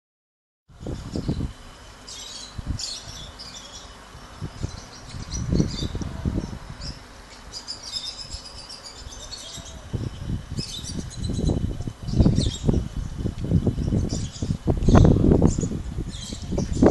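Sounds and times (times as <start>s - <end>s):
small birds chirping: 0.8s - 16.9s
low rumbling bursts: 2.4s - 16.9s.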